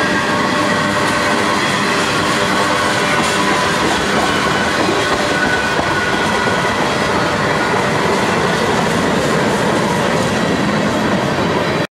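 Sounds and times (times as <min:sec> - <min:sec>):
high wheel squeal: 0:00.0 - 0:11.8
train wheels rumbling on rail: 0:00.0 - 0:11.9.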